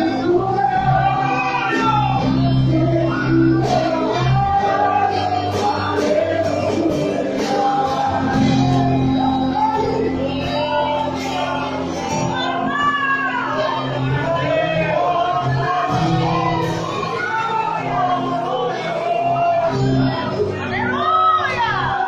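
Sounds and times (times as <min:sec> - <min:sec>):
band with bass and beat: 0:00.0 - 0:22.0
person singing: 0:00.0 - 0:22.0.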